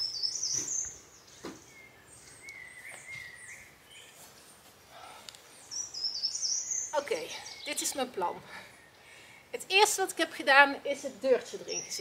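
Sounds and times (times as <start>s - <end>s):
small birds singing: 0.0s - 12.0s.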